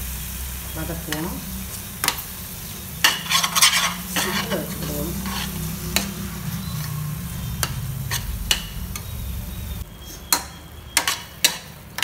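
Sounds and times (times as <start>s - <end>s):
food frying gently: 0.0s - 9.8s
spoon stirring and scraping in pan: 1.1s - 9.2s, 9.9s - 12.0s.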